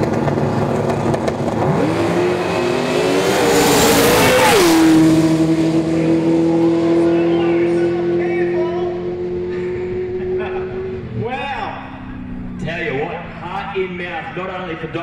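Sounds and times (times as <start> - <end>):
drag racing car at full throttle: 0.0 - 15.0.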